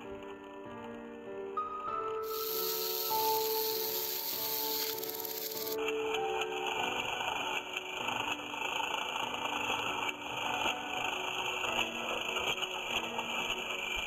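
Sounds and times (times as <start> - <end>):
toy train motors whirring: 2.2 - 14.0.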